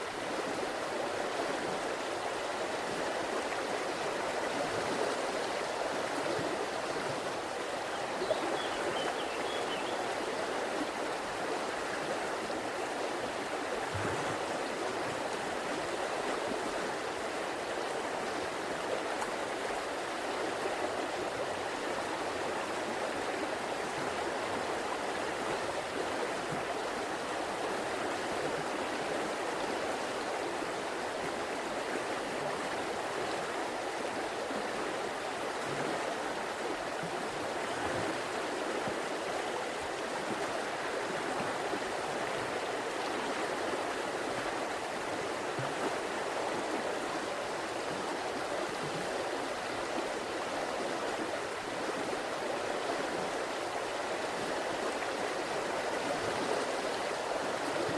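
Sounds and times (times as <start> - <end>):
river flowing over stones: 0.0 - 57.9.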